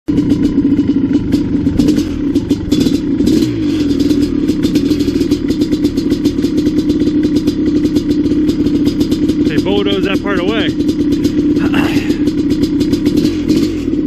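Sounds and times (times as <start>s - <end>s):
dirt bike engine idling: 0.1s - 14.0s.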